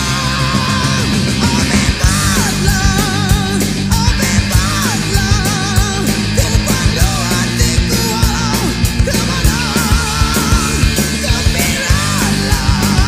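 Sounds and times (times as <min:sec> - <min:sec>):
fast steady drum beat: 0:00.0 - 0:13.0
person singing: 0:00.0 - 0:13.0
rock music: 0:00.0 - 0:13.0.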